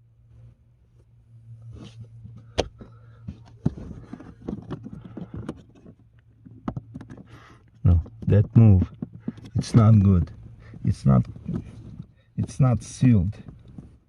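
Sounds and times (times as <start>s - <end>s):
steady low hum: 0.0s - 14.0s
plastic parts clicking and scraping: 1.7s - 14.0s.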